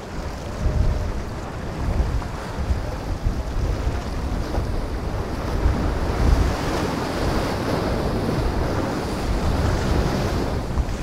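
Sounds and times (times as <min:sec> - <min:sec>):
gusty low rumbles: 0:00.0 - 0:11.0
waves breaking in choppy water: 0:00.0 - 0:11.0
wind buffeting microphone: 0:00.0 - 0:11.0.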